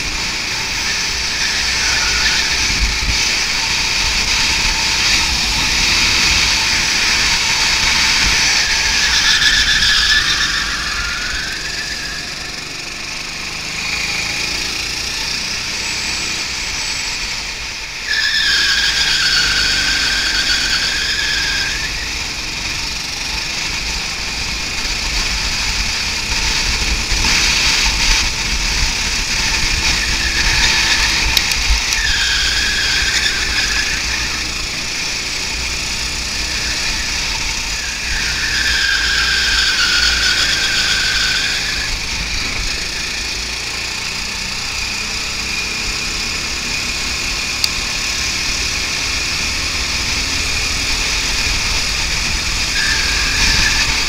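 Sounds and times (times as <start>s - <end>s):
go-kart engine whine: 0.0s - 54.0s
road and wind noise: 0.0s - 54.0s.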